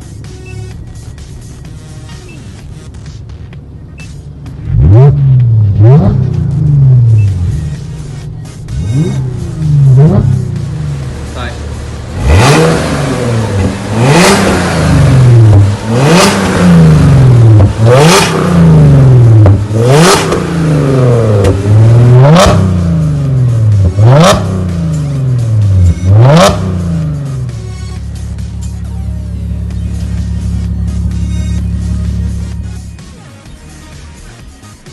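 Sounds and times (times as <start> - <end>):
car engine revving: 0.0 - 34.2.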